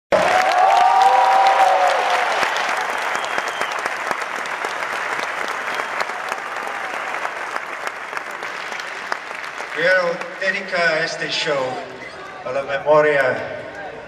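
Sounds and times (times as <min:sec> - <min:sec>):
crowd applauding: 0:00.1 - 0:12.5
crowd cheering: 0:00.1 - 0:14.0.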